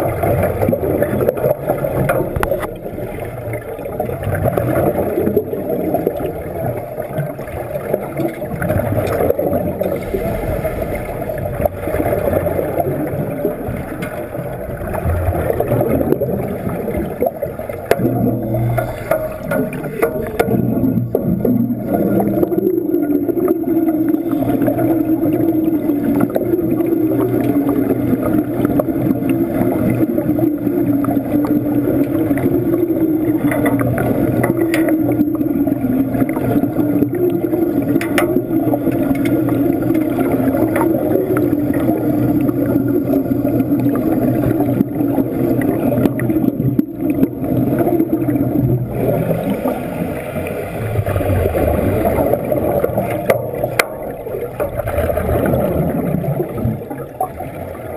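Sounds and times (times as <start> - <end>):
bubbles gurgling: 0.0 - 57.9
underwater welding arc crackling: 0.0 - 57.9.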